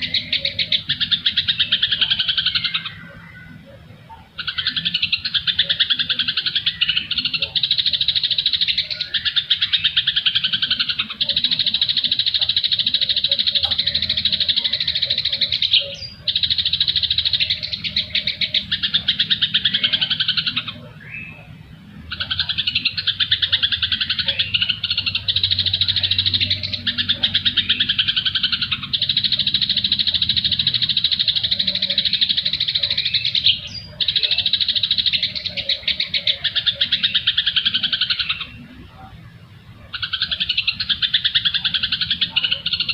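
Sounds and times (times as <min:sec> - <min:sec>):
songbirds chirping and chattering: 0:00.0 - 0:42.9.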